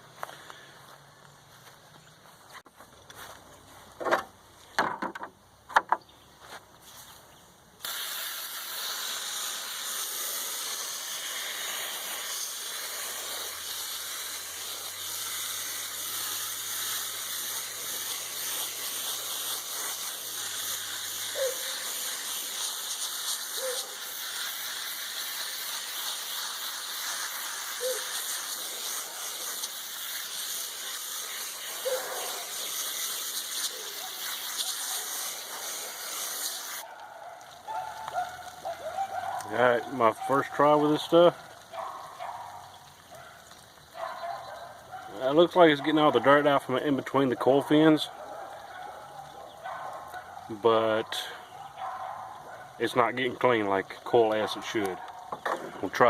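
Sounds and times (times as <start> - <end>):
water spraying from hose nozzle: 7.8 - 56.0.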